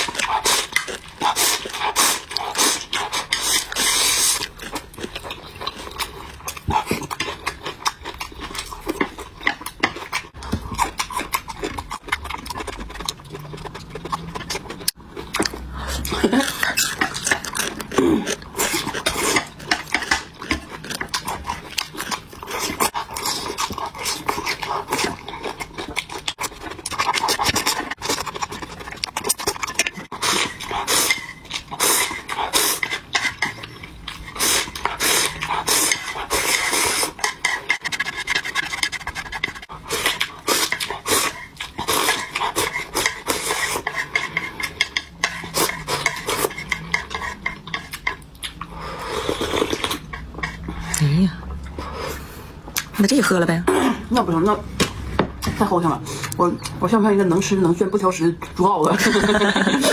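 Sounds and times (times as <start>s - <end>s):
slurping: 0.0s - 51.0s
chewing and crunching: 0.0s - 53.3s.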